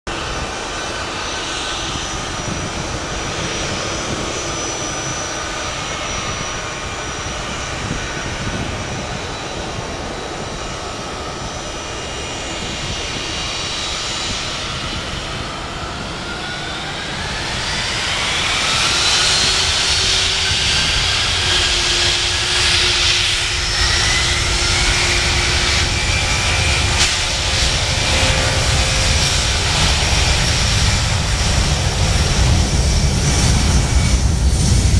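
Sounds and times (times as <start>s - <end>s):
jet engines whining: 0.1s - 34.9s
low rumble of takeoff roll: 0.1s - 34.9s.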